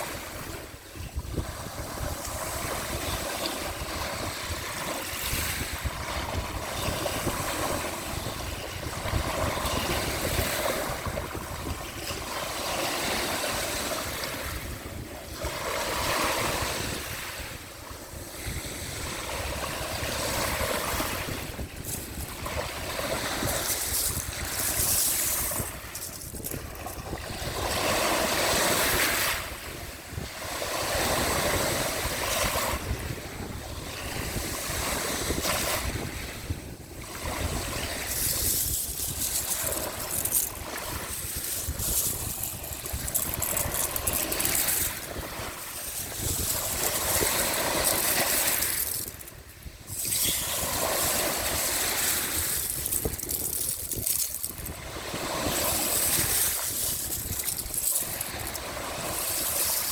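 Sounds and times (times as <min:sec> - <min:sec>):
sea waves washing ashore: 0:00.0 - 0:59.9
wind rumbling on microphone: 0:00.0 - 0:59.9.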